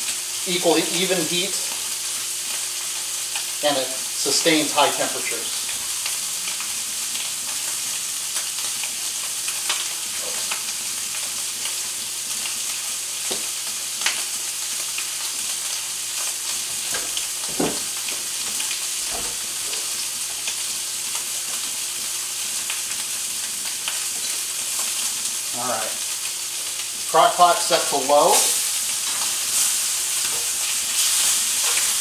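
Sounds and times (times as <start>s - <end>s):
meat sizzling in skillet: 0.0s - 32.0s.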